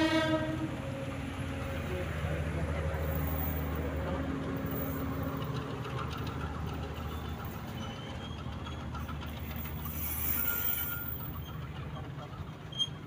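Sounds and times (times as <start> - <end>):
low diesel engine hum: 0.0 - 13.0
train wheels clicking over rails: 0.7 - 13.0.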